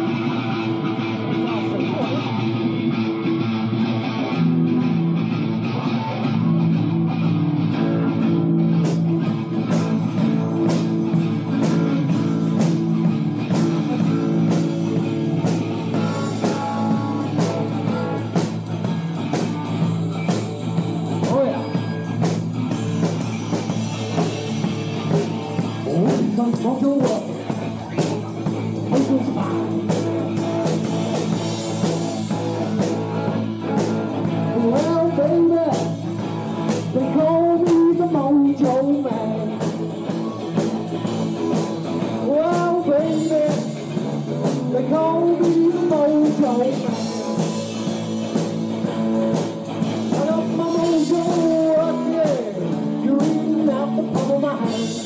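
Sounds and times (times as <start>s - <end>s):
blues-rock band jamming: 0.0s - 55.0s.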